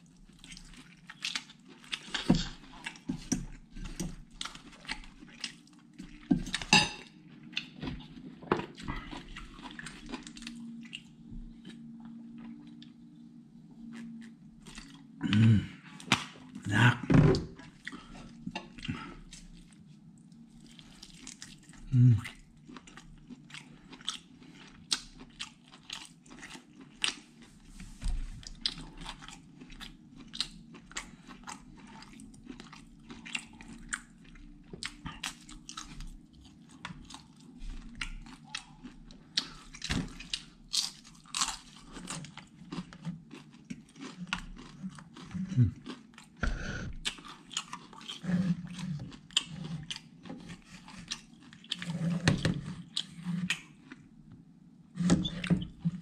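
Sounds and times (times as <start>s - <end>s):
low steady hum: 0.0s - 56.0s
person chewing crunchy food: 0.1s - 16.8s, 17.4s - 54.2s.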